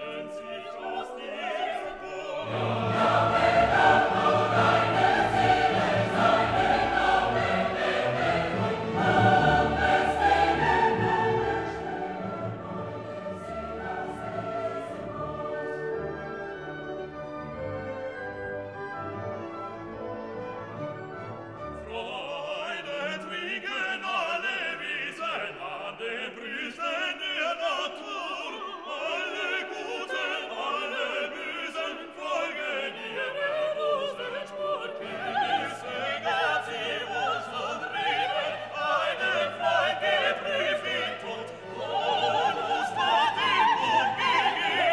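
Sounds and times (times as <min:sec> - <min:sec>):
operatic singing with orchestra: 0:00.0 - 0:44.9.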